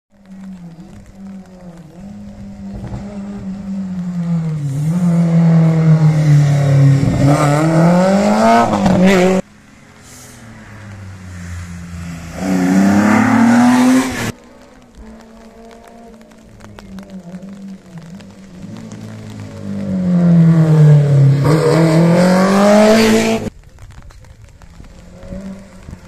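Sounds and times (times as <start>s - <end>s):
rally car engine at full throttle: 0.2s - 26.0s.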